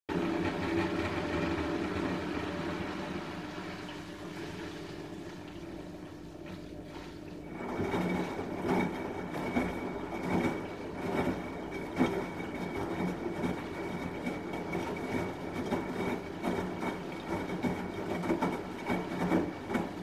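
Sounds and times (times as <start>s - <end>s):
washing machine running: 0.1s - 20.0s.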